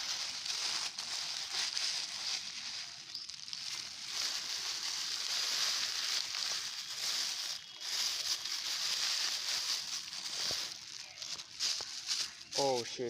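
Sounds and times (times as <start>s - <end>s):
plastic litter and leaves rustling: 0.0s - 13.0s.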